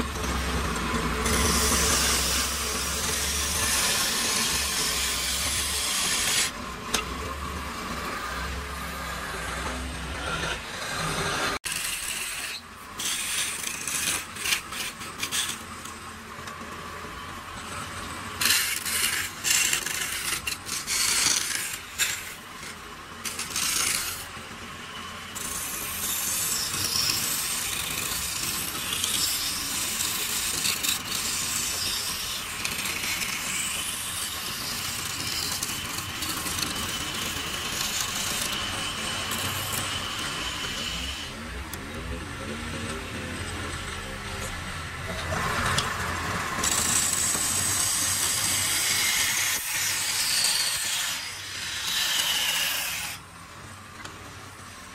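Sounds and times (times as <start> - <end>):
lathe tool cutting wood: 0.0 - 15.9, 18.4 - 53.2.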